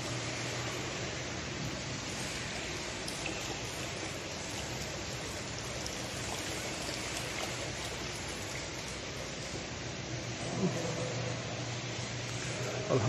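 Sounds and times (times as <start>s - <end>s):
fountain water trickling: 0.0s - 13.0s
steady low hum: 0.0s - 13.0s.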